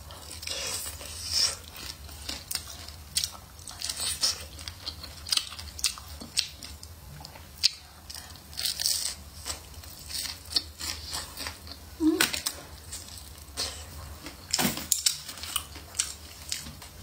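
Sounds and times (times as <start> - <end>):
crunchy bites and chewing: 0.2 - 17.0.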